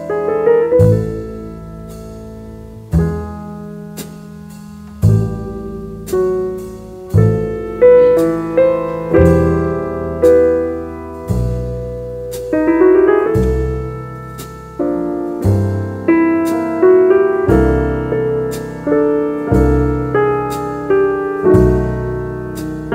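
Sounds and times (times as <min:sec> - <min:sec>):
jazz piano piece: 0:00.0 - 0:22.9.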